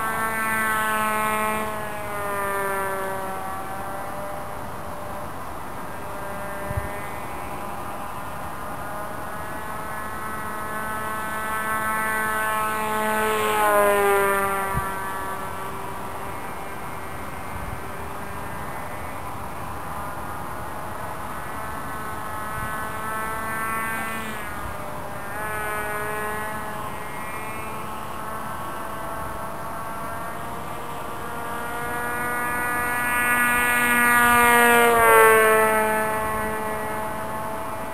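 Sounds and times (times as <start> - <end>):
model aeroplane flyby buzzing: 0.0 - 37.9.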